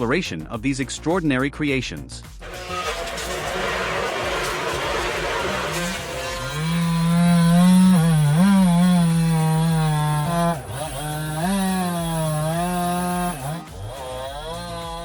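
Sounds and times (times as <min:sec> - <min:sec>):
chainsaw cutting wood: 0:02.4 - 0:15.0.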